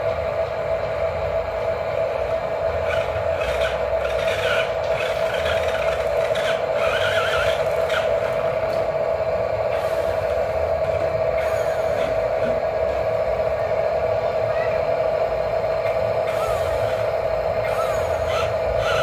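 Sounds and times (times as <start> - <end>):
small electric motor whining: 2.3 - 8.9, 9.6 - 19.0.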